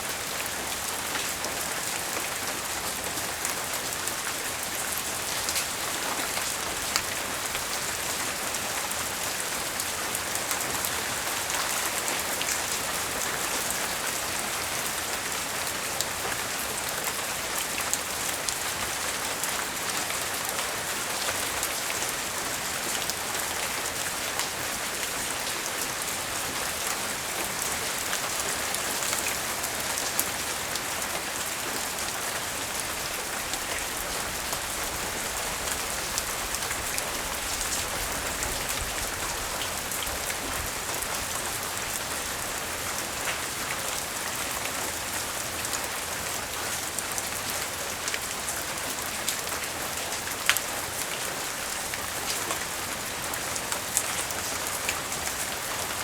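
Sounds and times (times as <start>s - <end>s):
light rain falling: 0.0s - 56.0s.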